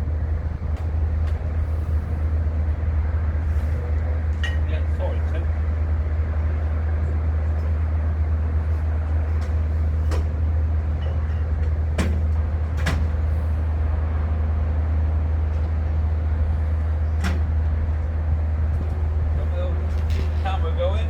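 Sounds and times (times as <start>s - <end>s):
low engine-like drone: 0.0s - 21.0s.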